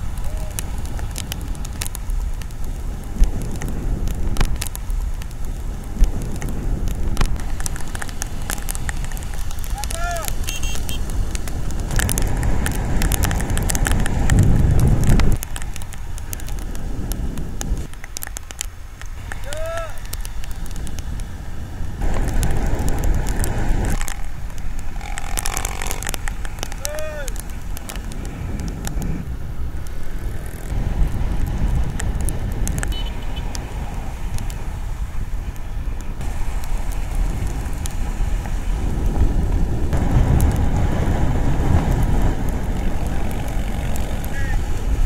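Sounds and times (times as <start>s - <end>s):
motorcycles running: 0.0s - 16.8s, 19.2s - 45.0s
crackling clicks: 0.0s - 45.0s
wind on microphone: 0.0s - 45.0s.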